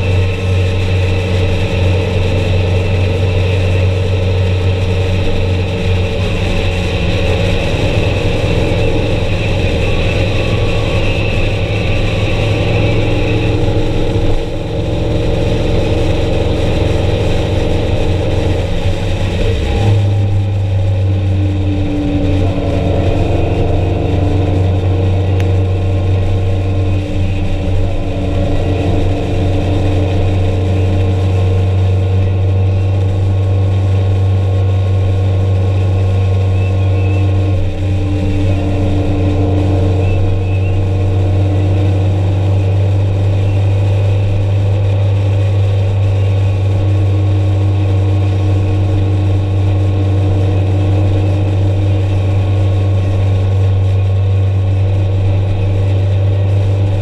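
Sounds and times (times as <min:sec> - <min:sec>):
engine and road drone: 0:00.0 - 0:57.0.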